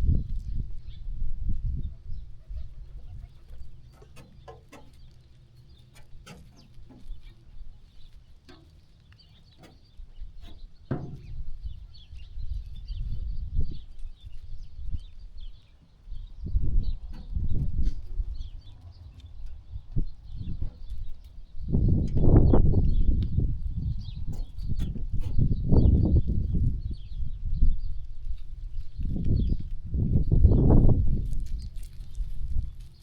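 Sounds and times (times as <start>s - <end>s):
rustling of sheep grazing: 2.2s - 33.0s
low rumbling bumps: 2.8s - 15.0s, 16.2s - 33.0s.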